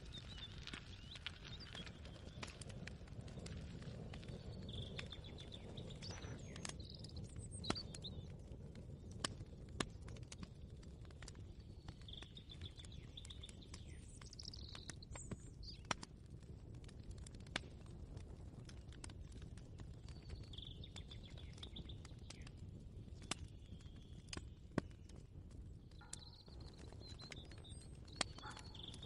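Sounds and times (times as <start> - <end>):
small birds chirping: 0.0 - 16.2, 18.6 - 29.0.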